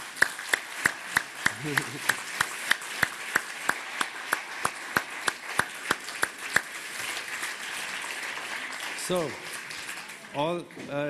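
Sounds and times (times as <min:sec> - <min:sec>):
person clapping loudly: 0:00.0 - 0:10.6
audience applause: 0:00.0 - 0:11.0.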